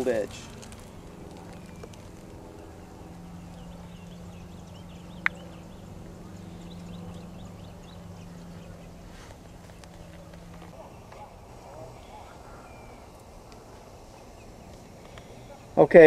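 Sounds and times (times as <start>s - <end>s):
low hum: 0.0s - 15.8s.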